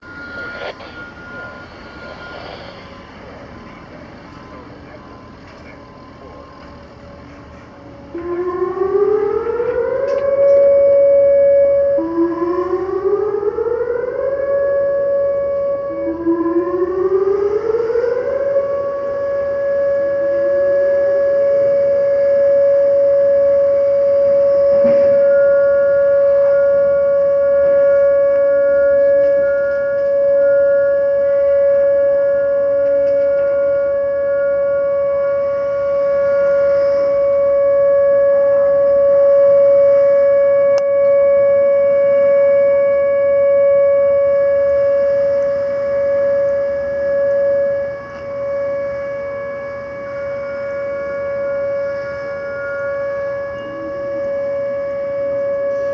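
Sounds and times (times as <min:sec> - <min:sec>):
higher faint steady siren tone: 0:00.0 - 0:55.9
warning sirens winding up: 0:00.0 - 0:55.9.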